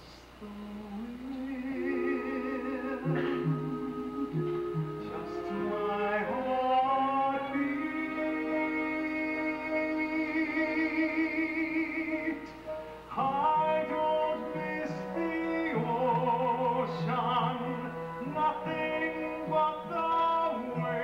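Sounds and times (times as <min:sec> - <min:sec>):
person singing with vibrato: 0:00.0 - 0:21.0
pit orchestra playing: 0:01.7 - 0:21.0.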